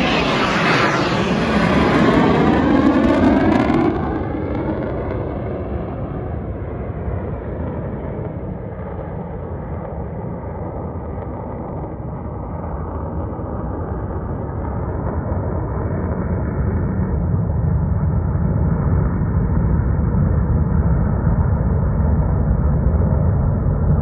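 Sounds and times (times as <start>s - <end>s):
jet engine roar passing overhead: 0.0s - 24.0s.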